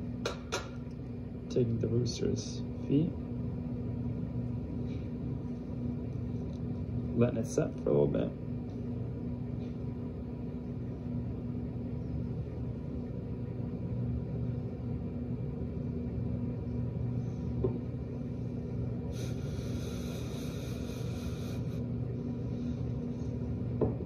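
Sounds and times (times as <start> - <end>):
low kitchen room hum: 0.0 - 24.0.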